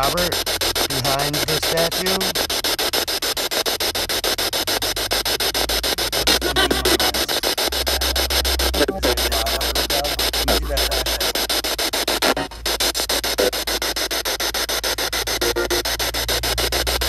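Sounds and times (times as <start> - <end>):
radio static sweeping: 0.0 - 17.0.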